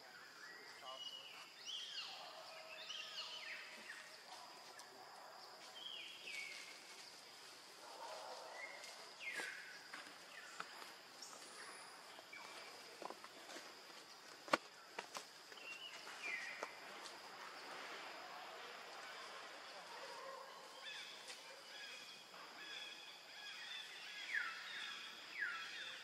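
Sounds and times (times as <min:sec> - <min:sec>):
high insect hum: 0:00.0 - 0:26.0.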